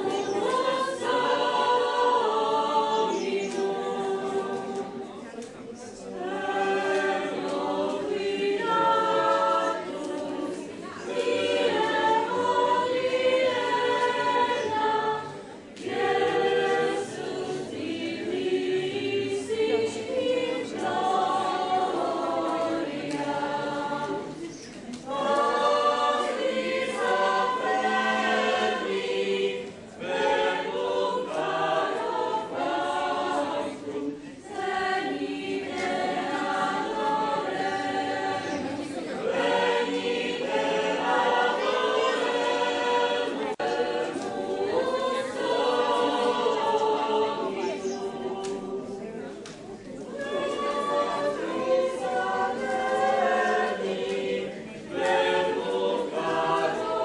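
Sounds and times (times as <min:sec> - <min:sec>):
choir singing a carol: 0:00.0 - 0:57.0.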